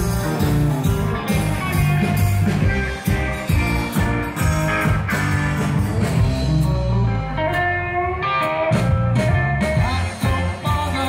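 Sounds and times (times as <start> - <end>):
bending electric guitar note: 0.0 - 11.0
live rock band playing: 0.0 - 11.0.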